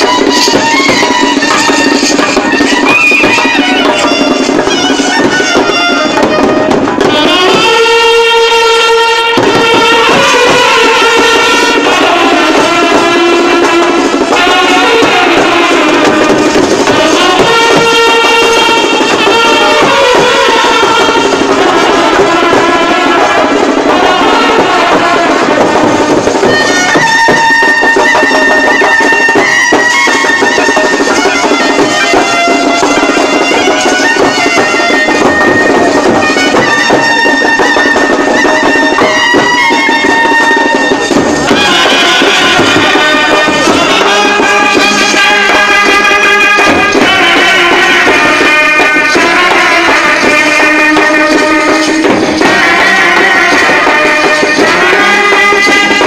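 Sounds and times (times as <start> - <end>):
steady drumming: 0.0 - 56.0
trumpets playing melody: 0.0 - 56.0.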